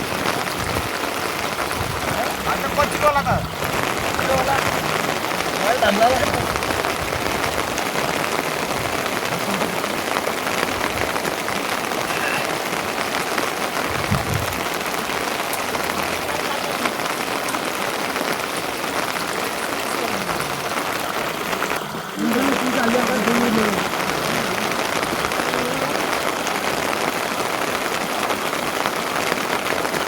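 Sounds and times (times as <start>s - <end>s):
rain patter: 0.0s - 30.0s.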